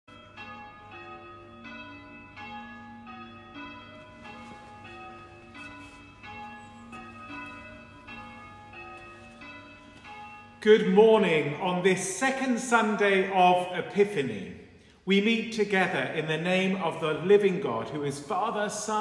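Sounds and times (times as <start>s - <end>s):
church bells change ringing: 0.1s - 19.0s.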